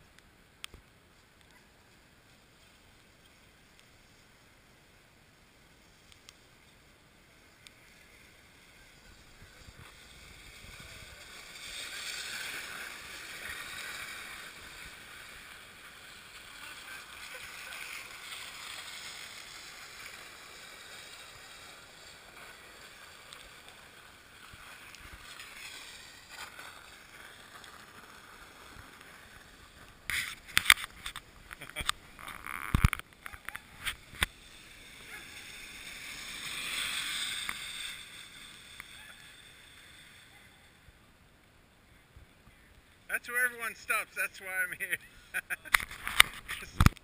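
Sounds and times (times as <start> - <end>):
sleds scraping on ice: 1.2 - 41.1, 42.6 - 47.0.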